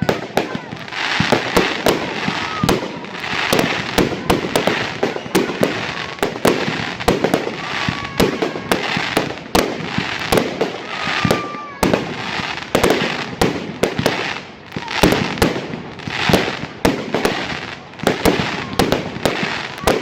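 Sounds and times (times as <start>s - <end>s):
fireworks bangs: 0.0s - 20.0s
fireworks crackling: 0.0s - 20.0s
fireworks whistles: 0.0s - 20.0s.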